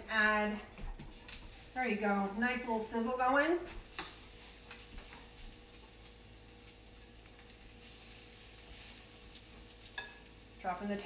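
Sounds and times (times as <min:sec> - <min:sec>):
meat sizzling in a skillet: 0:01.5 - 0:11.0.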